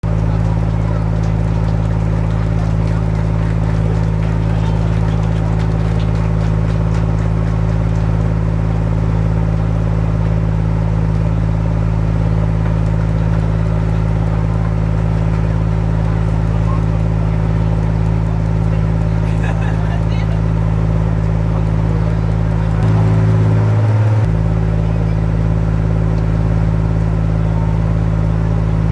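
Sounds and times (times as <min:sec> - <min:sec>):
diesel locomotive engine idling: 0:00.0 - 0:28.9.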